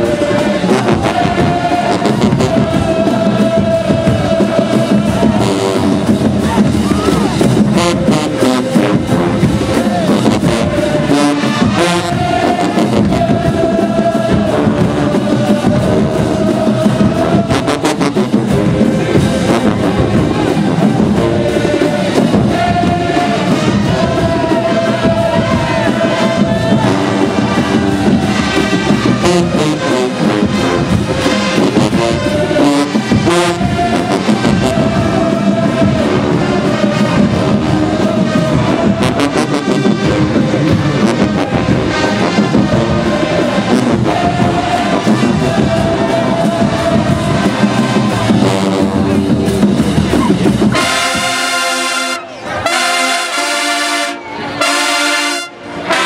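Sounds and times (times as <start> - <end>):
brass horns holding notes: 0.0 - 56.0
steady drum beat: 0.0 - 56.0.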